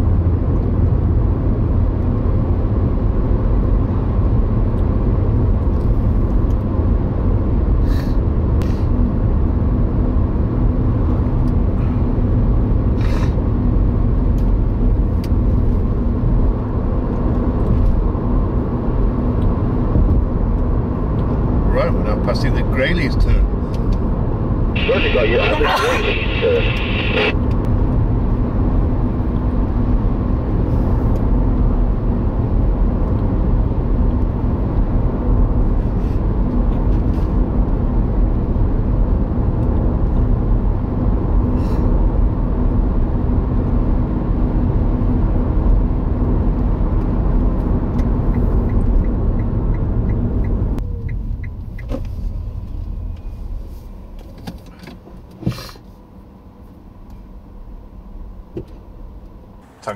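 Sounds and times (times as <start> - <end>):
car interior road noise: 0.0 - 59.9.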